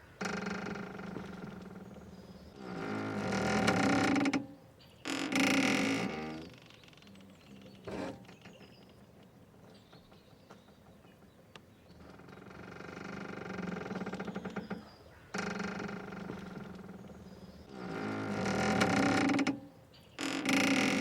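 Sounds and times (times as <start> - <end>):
mooring rope creaking: 0.0 - 9.0, 12.0 - 21.0.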